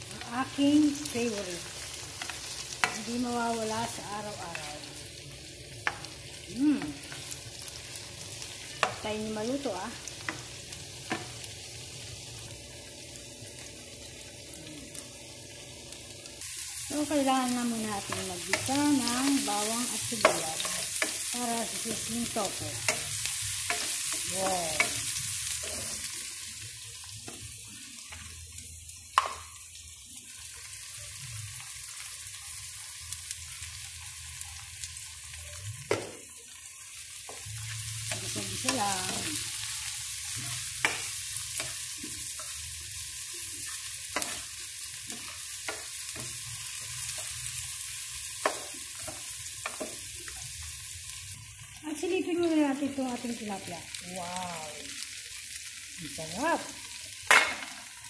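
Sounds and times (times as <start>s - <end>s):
onions sizzling in oil: 0.0s - 58.0s.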